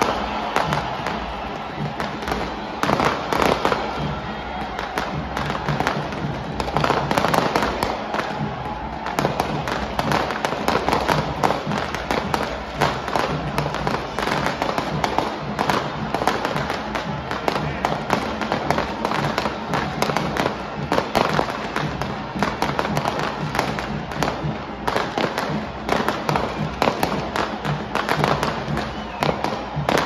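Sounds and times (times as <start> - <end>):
fireworks popping and crackling: 0.0 - 30.0
steady crowd din: 0.0 - 30.0.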